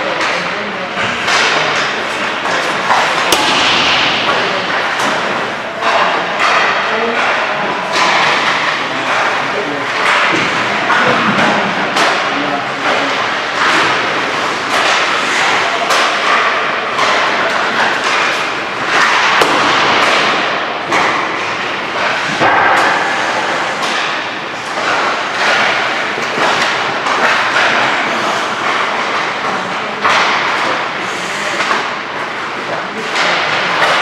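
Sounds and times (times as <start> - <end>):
pucks knocking off sticks: 0.0 - 34.0.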